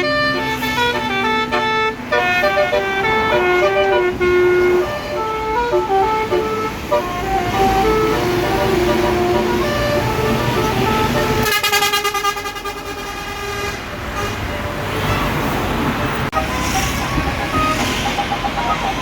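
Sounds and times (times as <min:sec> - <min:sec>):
bus musical horn: 0:00.0 - 0:19.0.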